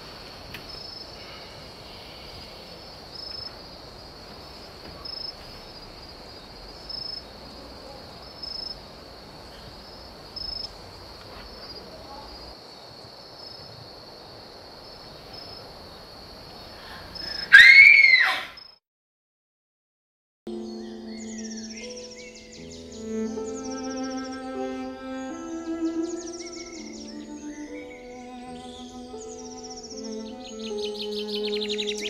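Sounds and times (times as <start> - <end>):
crickets trilling: 0.0 - 18.8, 21.1 - 32.0.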